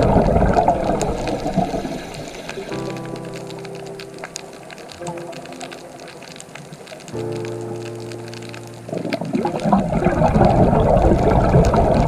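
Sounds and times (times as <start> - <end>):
rushing water-like noise: 0.0 - 12.0.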